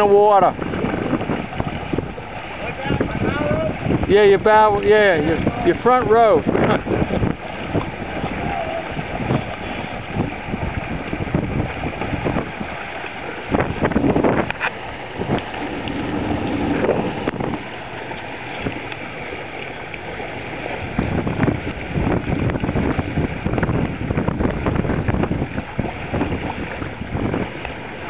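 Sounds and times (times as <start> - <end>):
water rushing past hull: 0.0 - 28.0
wind buffeting microphone: 0.0 - 28.0.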